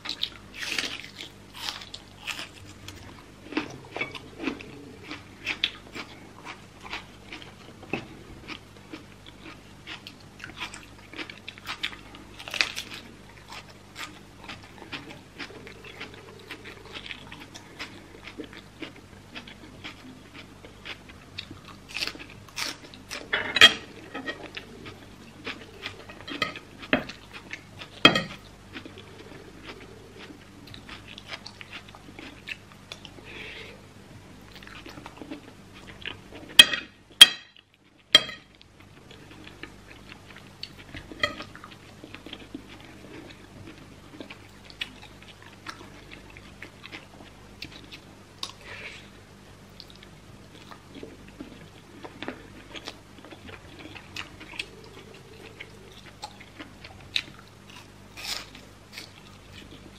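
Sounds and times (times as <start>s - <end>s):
chewing crisp raw vegetables: 0.0s - 33.8s, 34.4s - 36.9s, 37.6s - 49.1s, 49.7s - 59.9s
faint low hum: 0.0s - 59.9s.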